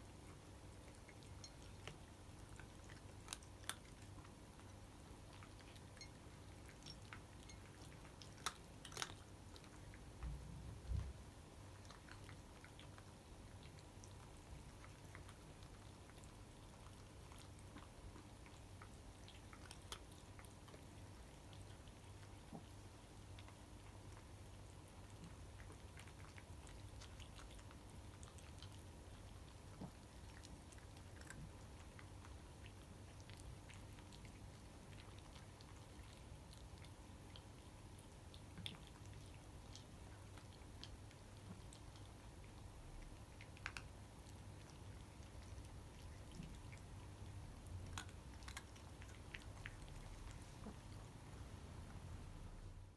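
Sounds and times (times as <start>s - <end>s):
cats chewing dry kibble: 0.0s - 52.5s
low steady hum: 0.0s - 52.9s.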